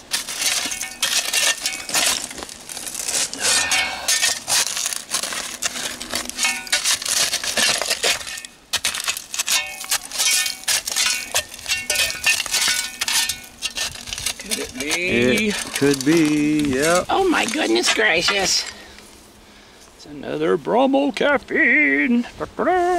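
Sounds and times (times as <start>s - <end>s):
shovel scraping into dirt: 0.0s - 18.8s.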